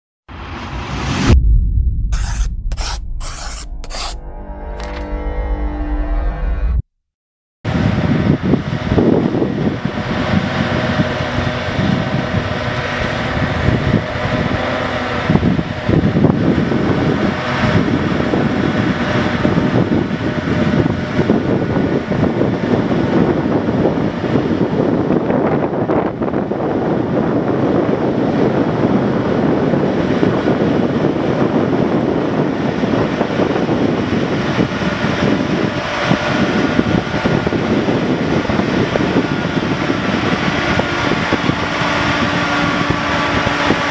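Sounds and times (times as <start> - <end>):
wind buffeting microphone: 7.7 - 43.9.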